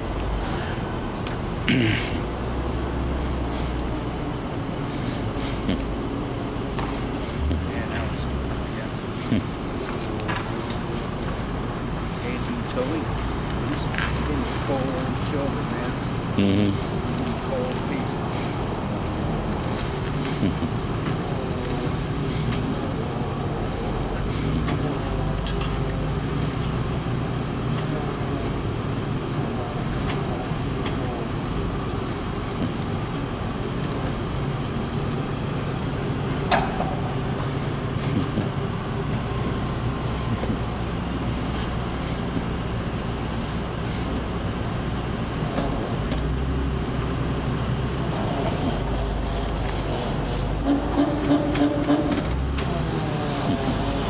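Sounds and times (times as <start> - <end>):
truck engine rumbling: 0.0 - 54.0.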